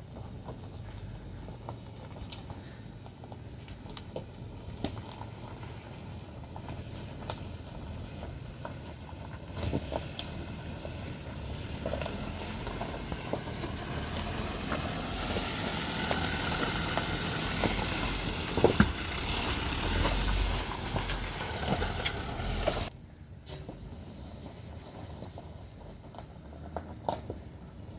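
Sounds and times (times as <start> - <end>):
low engine rumble: 0.0 - 27.9
tires crunching over stones: 0.0 - 27.9.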